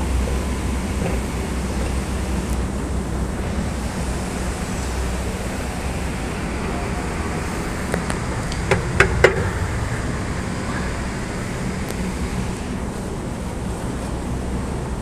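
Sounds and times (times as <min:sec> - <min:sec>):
escalator running: 0:00.0 - 0:15.0.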